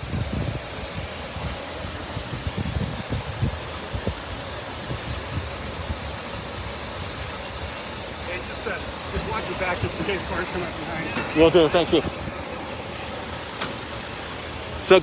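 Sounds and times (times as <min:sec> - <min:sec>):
water gushing from fire hydrant: 0:00.0 - 0:15.0.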